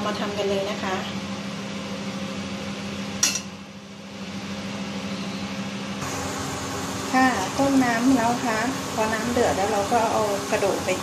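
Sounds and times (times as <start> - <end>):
kitchen machine humming: 0.0 - 11.0.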